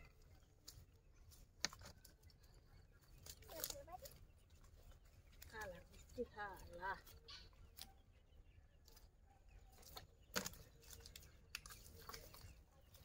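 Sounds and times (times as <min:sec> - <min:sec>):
faint clicks and rustles of net: 0:00.0 - 0:08.0, 0:08.8 - 0:13.0.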